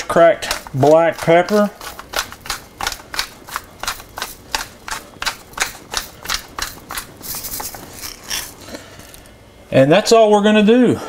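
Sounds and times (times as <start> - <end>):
pepper mill grinding: 0.0 - 9.3.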